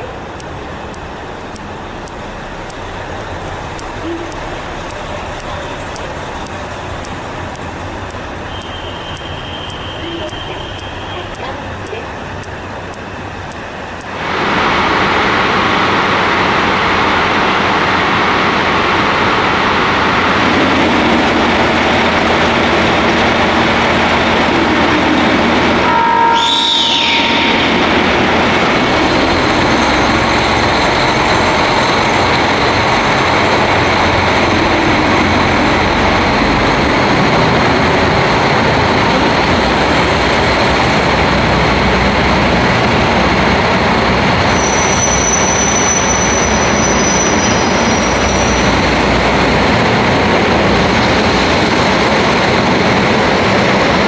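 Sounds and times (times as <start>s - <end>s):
diesel train running on rails: 0.0s - 54.0s.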